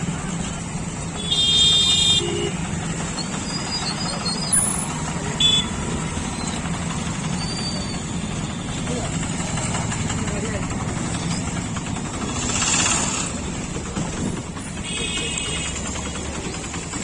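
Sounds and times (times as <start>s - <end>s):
low hum of traffic: 0.0s - 17.0s.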